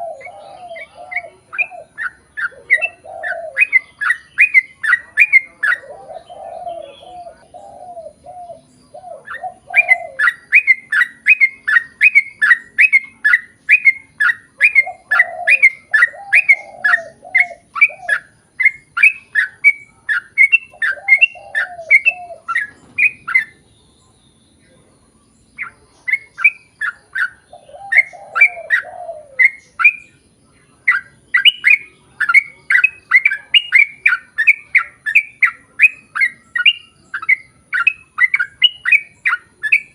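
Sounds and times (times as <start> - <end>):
bulbul chirping: 0.0 - 39.9
low warbling bird phrase: 0.0 - 39.9.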